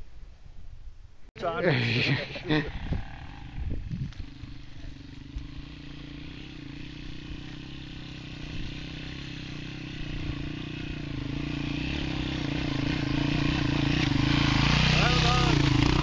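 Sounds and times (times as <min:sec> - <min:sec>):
motorcycle engine running: 0:01.5 - 0:16.0.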